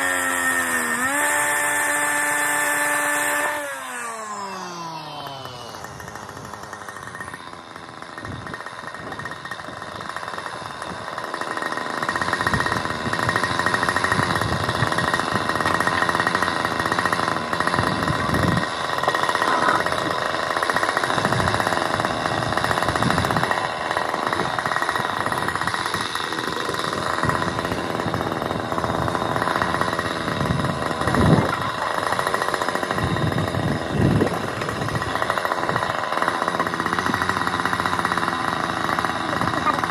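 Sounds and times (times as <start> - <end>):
machinery engine rattling: 0.0 - 39.9.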